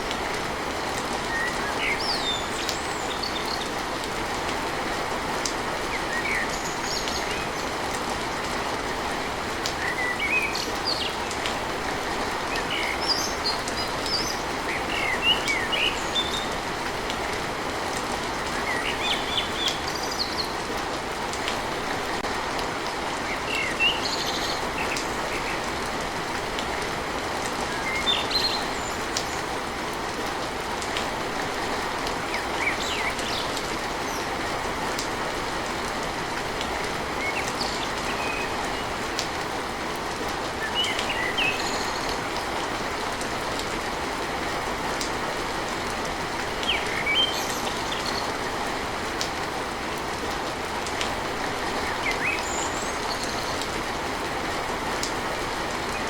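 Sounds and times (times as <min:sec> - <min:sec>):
rain drumming on a tin roof: 0:00.0 - 0:56.0.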